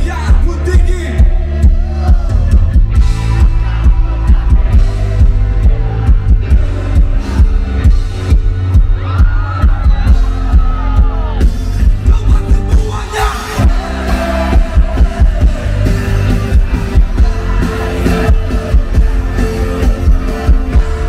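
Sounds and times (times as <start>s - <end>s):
live band through loudspeakers: 0.0s - 21.0s.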